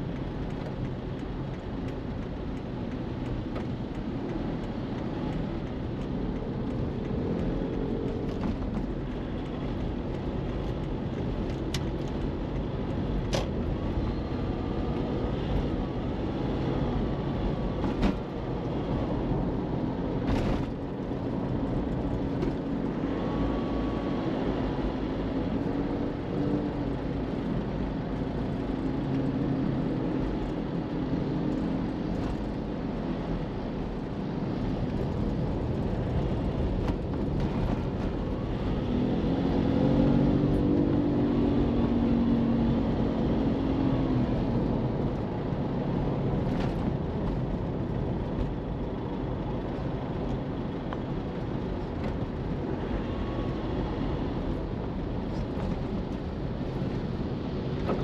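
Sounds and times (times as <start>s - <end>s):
road and engine noise: 0.0s - 58.0s.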